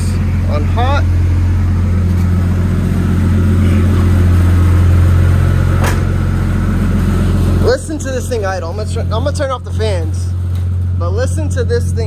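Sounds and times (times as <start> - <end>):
car engine idling: 0.0 - 12.0
shop fan running: 0.0 - 12.0.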